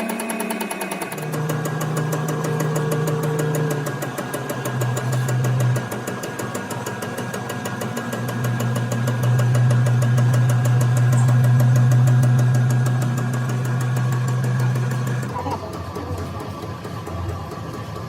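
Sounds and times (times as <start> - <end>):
motor running with fast ticking: 0.0 - 18.0.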